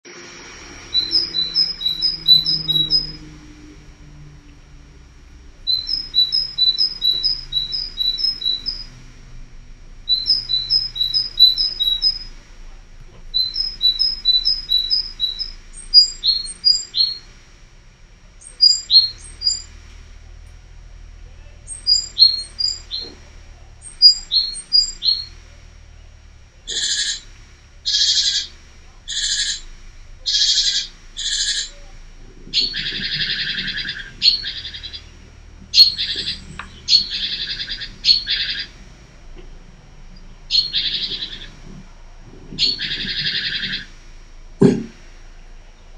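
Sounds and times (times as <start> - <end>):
small birds singing and calling: 0.1 - 45.9.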